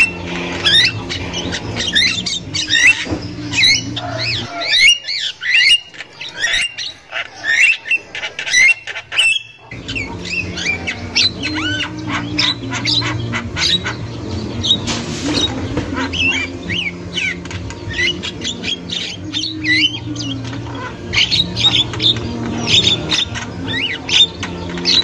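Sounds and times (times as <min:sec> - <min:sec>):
bird whistling and squawking: 0:00.0 - 0:25.0.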